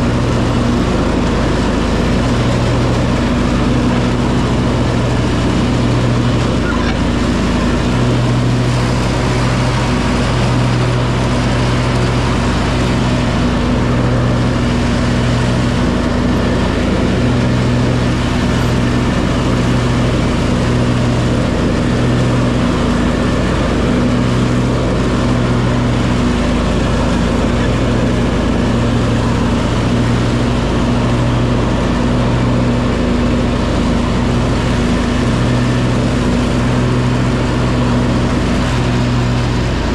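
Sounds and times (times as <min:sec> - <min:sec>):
garden tractor engine droning: 0:00.0 - 0:39.9.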